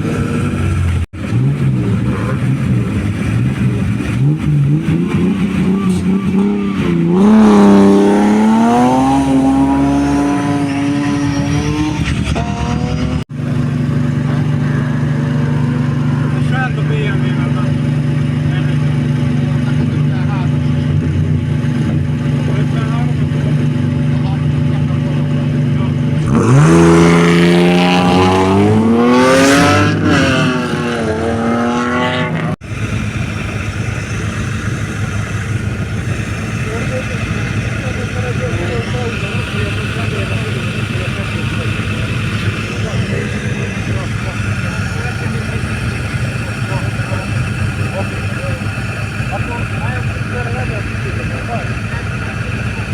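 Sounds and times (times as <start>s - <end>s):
engine idling: 0.0s - 26.6s, 32.6s - 52.9s
rally car engine revving and accelerating: 0.0s - 52.9s.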